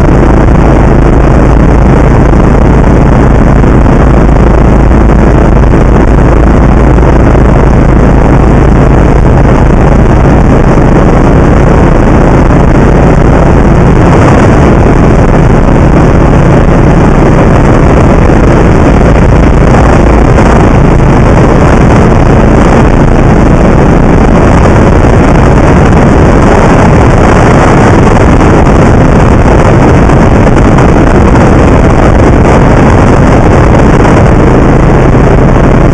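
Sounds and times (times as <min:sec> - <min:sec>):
aircraft engine and propeller droning: 0:00.0 - 0:35.9
wind rush: 0:00.0 - 0:35.9.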